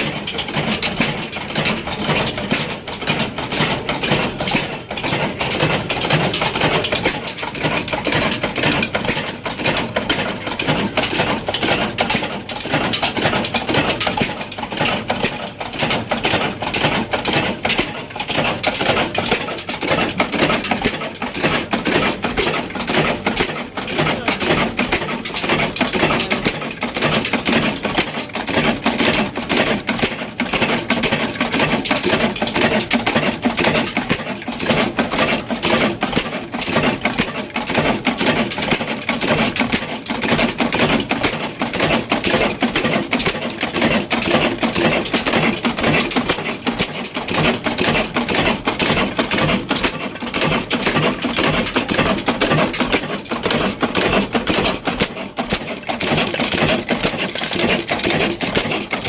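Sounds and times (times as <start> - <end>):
diesel engine clattering: 0.0 - 59.0.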